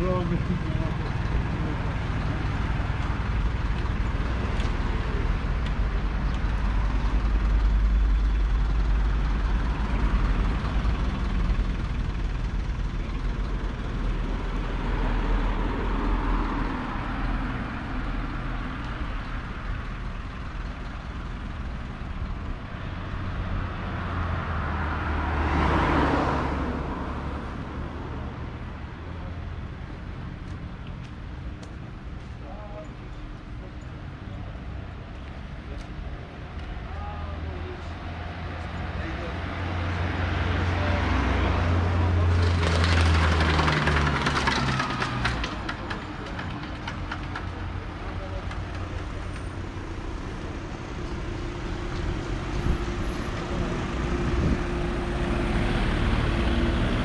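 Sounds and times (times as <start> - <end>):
car engines running: 0.0 - 57.0
cars passing: 0.0 - 57.0.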